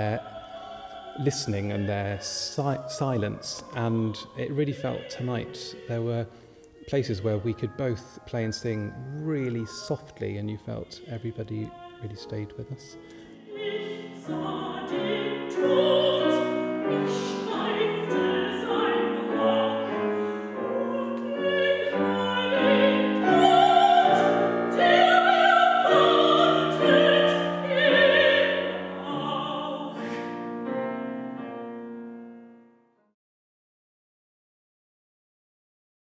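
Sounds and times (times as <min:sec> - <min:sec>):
mezzo-soprano singing with vibrato: 0:00.0 - 0:30.7
grand piano: 0:00.0 - 0:33.1.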